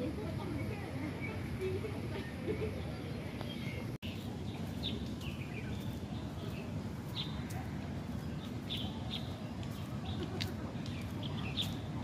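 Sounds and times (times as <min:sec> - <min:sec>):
low background noise: 0:00.0 - 0:12.0
birds chirping: 0:00.4 - 0:12.0.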